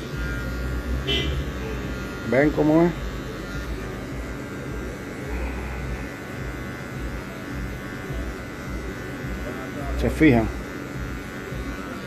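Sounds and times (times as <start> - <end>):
electric hair clipper humming: 0.0 - 12.0.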